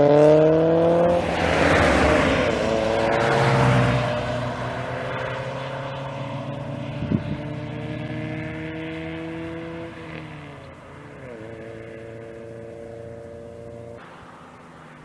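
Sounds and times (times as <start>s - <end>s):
car engine accelerating away: 0.0s - 15.0s.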